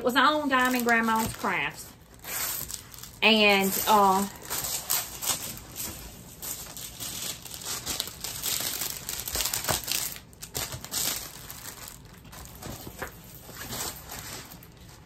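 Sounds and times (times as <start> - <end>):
packaging crinkling: 0.2 - 15.0.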